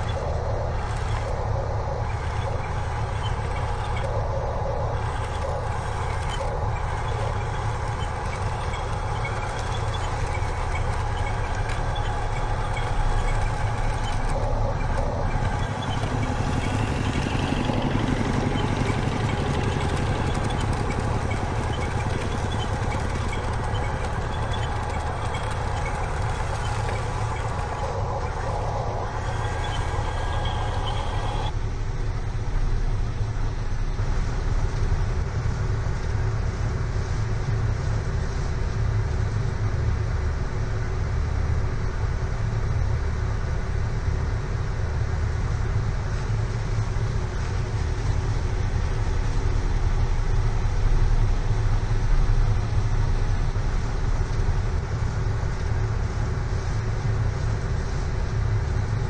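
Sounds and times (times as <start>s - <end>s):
engine drone with rattle: 0.0s - 59.0s.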